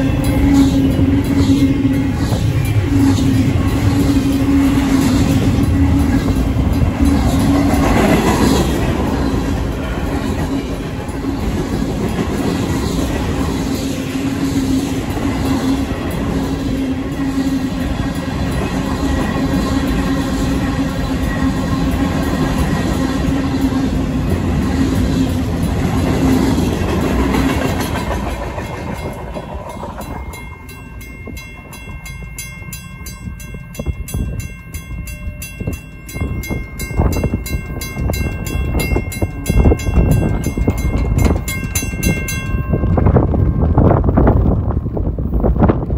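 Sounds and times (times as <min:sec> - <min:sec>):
crossing bell ringing: 0:00.0 - 0:44.5
freight train rumbling and clacking: 0:00.0 - 0:45.9
wind buffeting microphone: 0:00.0 - 0:45.9.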